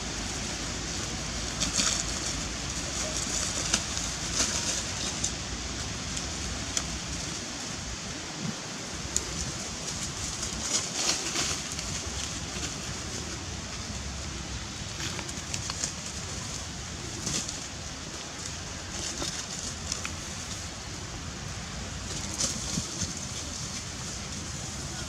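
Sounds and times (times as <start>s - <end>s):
dry leaves rustling and crackling: 0.0s - 25.0s
steady outdoor hiss: 0.0s - 25.0s.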